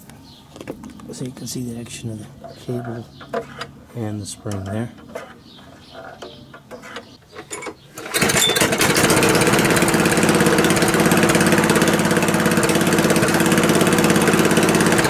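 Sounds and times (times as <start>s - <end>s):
lawn mower engine running: 0.6s - 15.0s.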